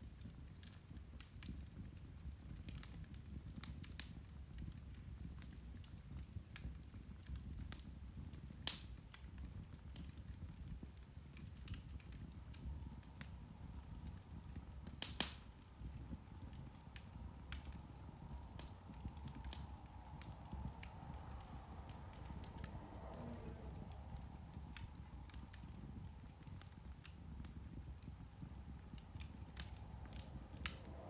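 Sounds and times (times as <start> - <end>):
peat fire crackling: 0.0 - 31.0.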